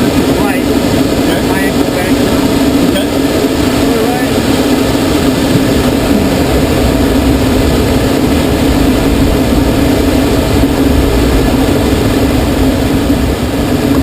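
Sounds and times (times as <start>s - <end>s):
loud rush of air: 0.0s - 14.0s.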